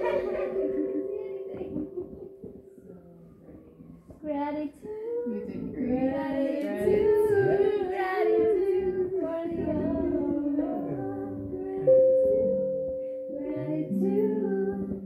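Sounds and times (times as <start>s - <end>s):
person singing wordless melody: 0.0s - 15.0s.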